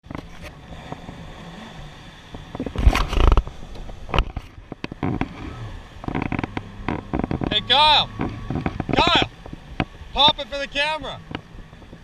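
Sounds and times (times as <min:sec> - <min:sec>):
engine rumbling and revving: 0:00.0 - 0:12.0.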